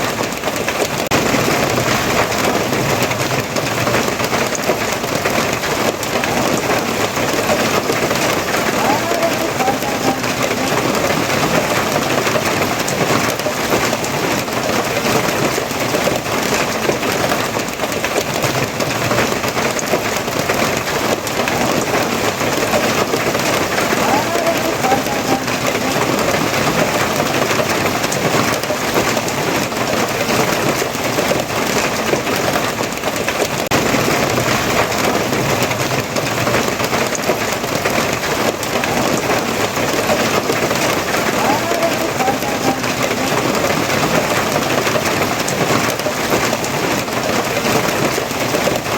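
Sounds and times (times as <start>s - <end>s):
steady rain hissing: 0.0s - 48.9s.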